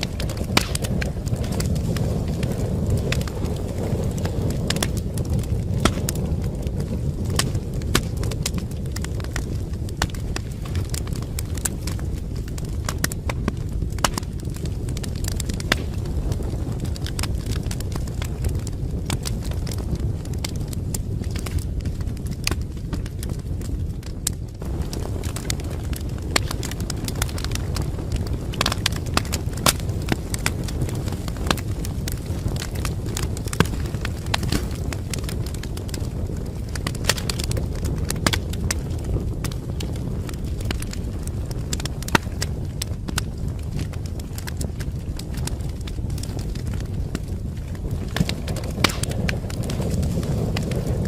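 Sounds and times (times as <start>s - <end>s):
low rumble of flames: 0.0s - 51.0s
wood fire crackling and popping: 0.0s - 51.0s.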